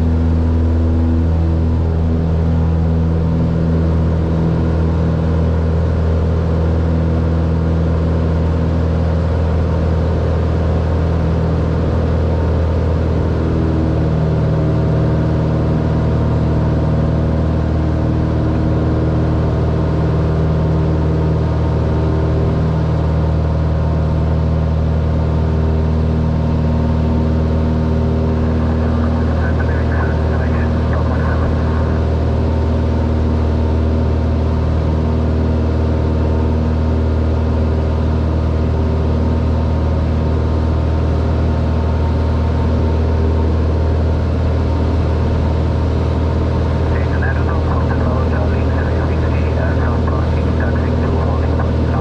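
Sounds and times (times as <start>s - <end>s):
propeller aircraft engine running: 0.0s - 52.0s.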